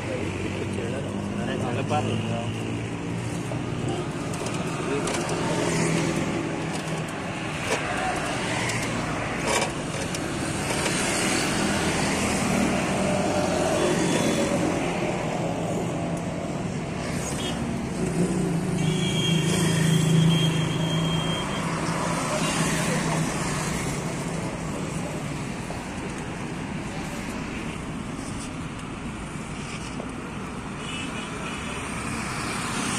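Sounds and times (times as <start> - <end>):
car engine and traffic noise: 0.0 - 32.9.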